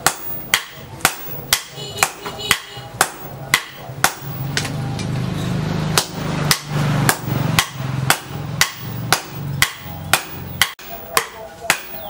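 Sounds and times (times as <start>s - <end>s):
hammer ringing on metal: 0.0s - 4.6s, 6.0s - 12.0s.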